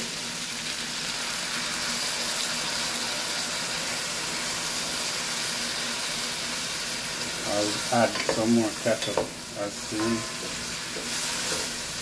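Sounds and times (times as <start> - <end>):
vegetables sizzling: 0.0 - 12.0.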